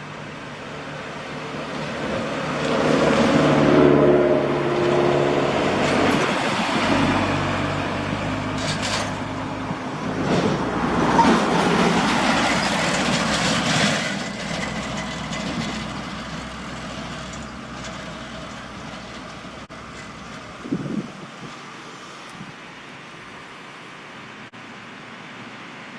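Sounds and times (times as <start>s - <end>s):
large truck driving past: 0.0s - 22.2s.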